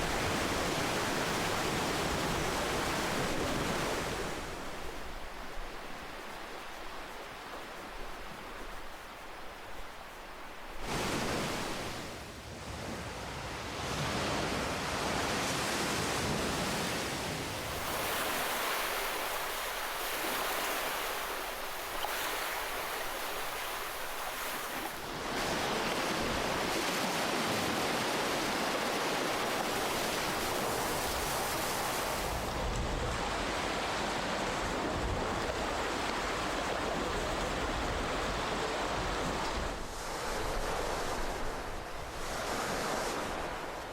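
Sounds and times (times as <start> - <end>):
waves breaking and washing in: 0.0 - 43.9.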